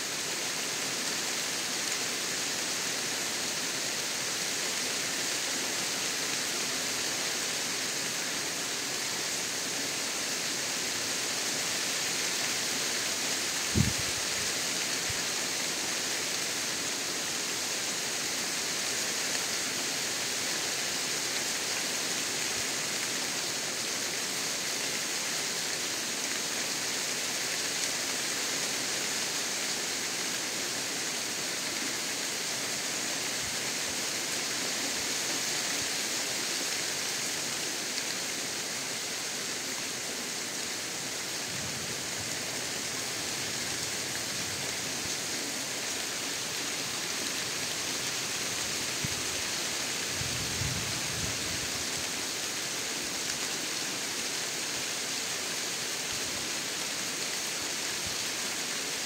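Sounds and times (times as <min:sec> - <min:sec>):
steady rain on vegetation: 0:00.0 - 0:59.0.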